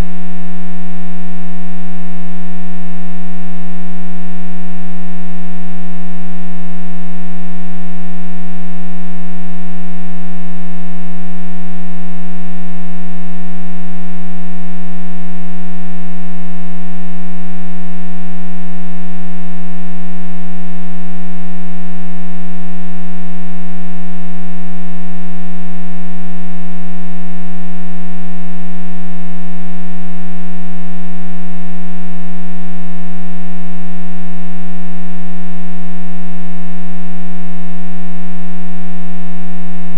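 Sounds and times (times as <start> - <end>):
loud steady buzzing hum: 0.0 - 39.9.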